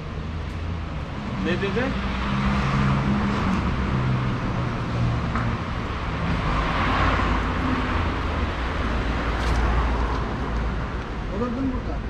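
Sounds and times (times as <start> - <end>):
car passing: 0.0 - 12.0
vehicle engines humming: 0.0 - 12.0.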